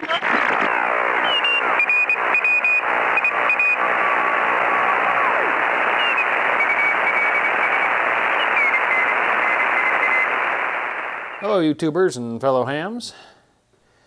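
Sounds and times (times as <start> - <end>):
crackles: 0.0 - 11.5
radio static hiss: 0.0 - 11.7.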